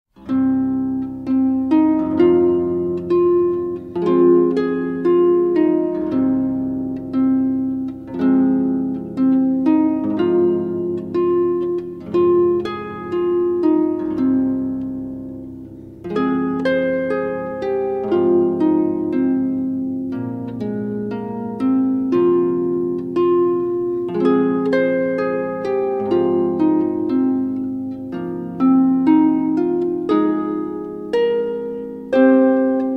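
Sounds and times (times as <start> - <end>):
plucked string melody: 0.1 - 32.9.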